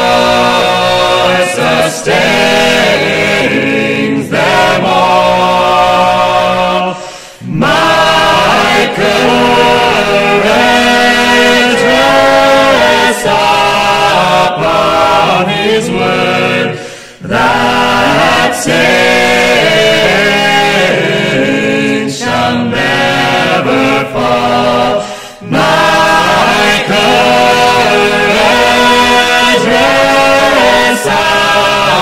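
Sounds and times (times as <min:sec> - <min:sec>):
vocal ensemble singing a hymn: 0:00.0 - 0:32.0.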